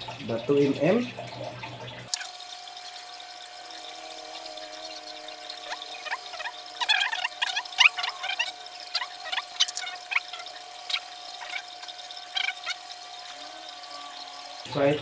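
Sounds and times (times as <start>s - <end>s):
faint hum: 2.2s - 15.0s.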